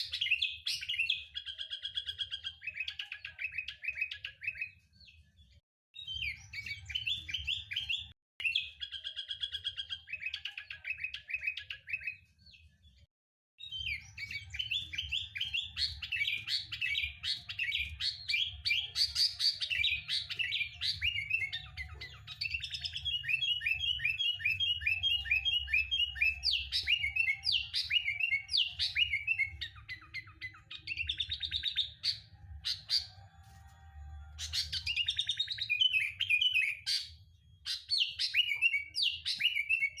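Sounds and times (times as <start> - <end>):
bird chirps and trills: 0.0 - 5.2, 6.0 - 12.7, 13.6 - 33.4, 34.2 - 40.0.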